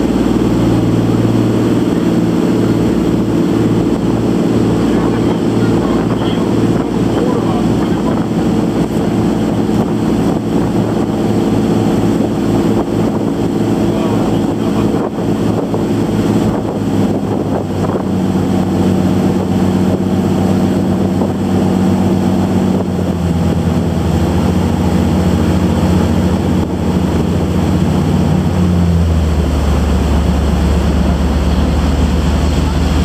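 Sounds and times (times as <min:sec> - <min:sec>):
boat engine running: 0:00.0 - 0:33.0
water rushing past hull: 0:00.0 - 0:33.0
wind buffeting microphone: 0:00.0 - 0:33.0.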